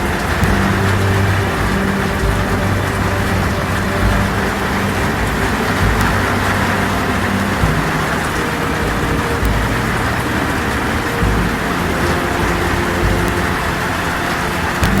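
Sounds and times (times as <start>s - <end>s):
heavy rain on a metal roof: 0.0s - 15.0s
low drone shifting pitch: 0.0s - 15.0s.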